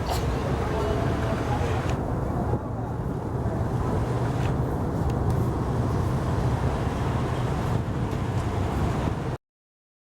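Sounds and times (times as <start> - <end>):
boat diesel engine drone: 0.0 - 9.4
water noise: 0.0 - 9.4
wind: 0.0 - 9.4.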